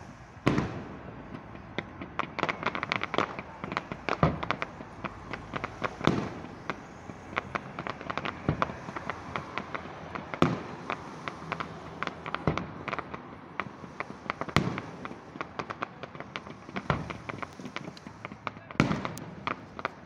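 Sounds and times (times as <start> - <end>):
fireworks popping and crackling: 0.0 - 20.0
loud firework bangs: 0.0 - 20.0.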